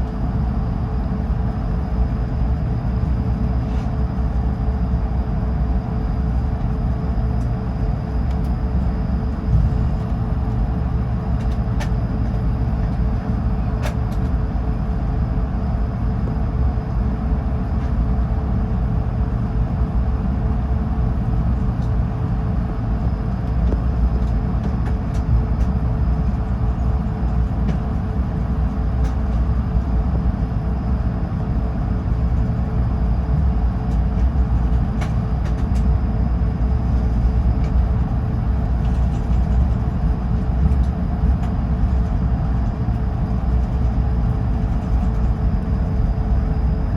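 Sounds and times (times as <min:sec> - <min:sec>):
airliner cabin low rumble: 0:00.0 - 0:46.9
mid-pitched hum: 0:00.0 - 0:46.9.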